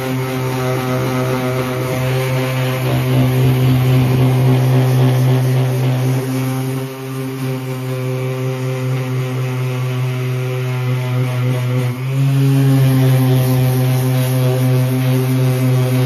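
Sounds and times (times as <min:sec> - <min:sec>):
electric sander running: 0:00.0 - 0:16.0.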